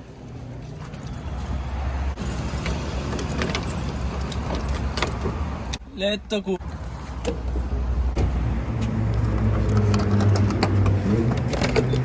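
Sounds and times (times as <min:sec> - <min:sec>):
car engine rumbling: 0:00.0 - 0:05.9, 0:06.6 - 0:12.0.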